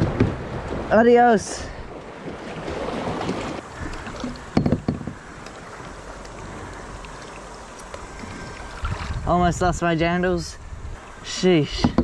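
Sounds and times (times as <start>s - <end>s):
river water rushing around kayak: 0.0s - 12.0s.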